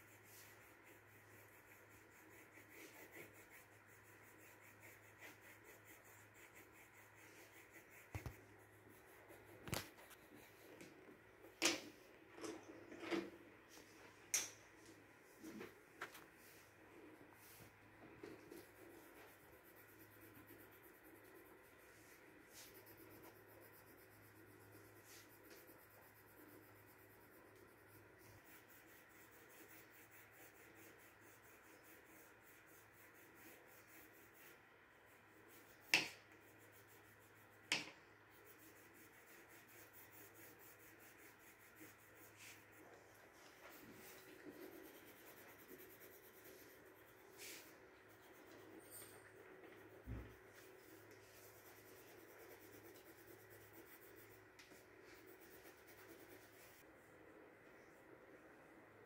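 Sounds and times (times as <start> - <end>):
pencil scratching on paper: 0.0 - 11.2, 15.4 - 56.9.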